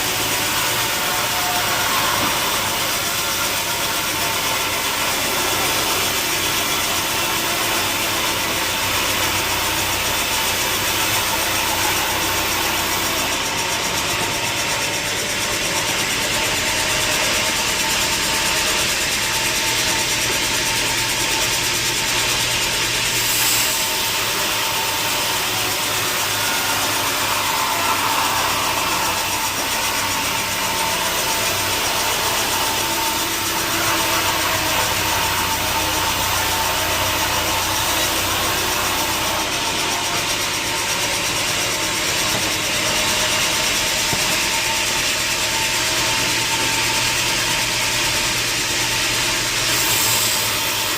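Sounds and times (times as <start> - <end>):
sawmill machinery whirring: 0.0 - 50.9.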